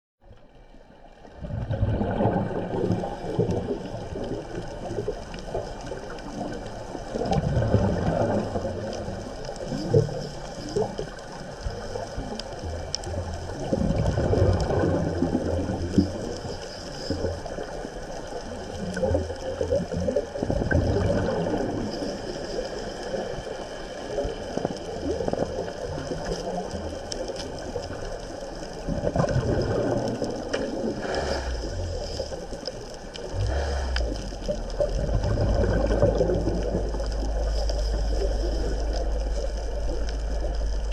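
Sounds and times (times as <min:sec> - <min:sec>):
underwater surging and bubbling: 0:00.2 - 0:40.9.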